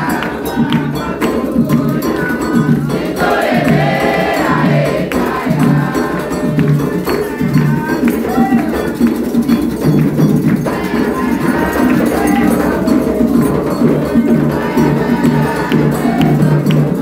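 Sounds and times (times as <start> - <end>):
group chanting call and response: 0.0 - 8.9, 10.7 - 17.0
hand drums and percussion: 0.0 - 17.0.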